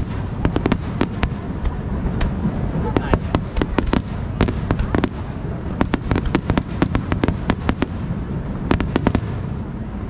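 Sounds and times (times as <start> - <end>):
fireworks bangs and crackles: 0.0 - 10.0
low rumble: 0.0 - 10.0.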